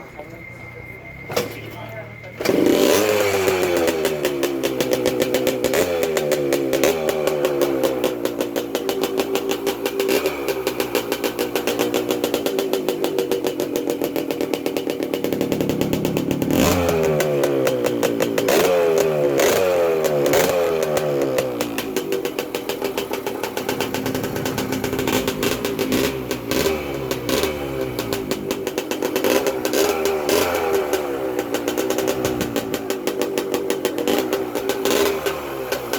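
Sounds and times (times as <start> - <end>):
two-stroke motorcycle engine revving: 1.0 - 35.9.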